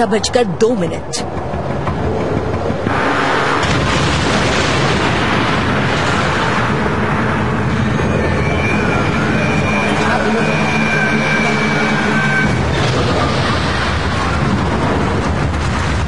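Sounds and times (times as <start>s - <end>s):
steady tones: 0.0s - 15.3s
explosion rumble: 1.4s - 16.0s.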